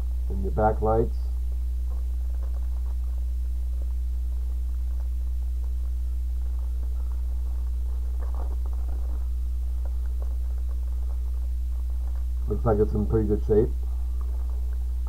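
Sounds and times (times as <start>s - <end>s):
low electrical hum: 0.0s - 15.0s
plastic bag crinkling: 1.8s - 15.0s.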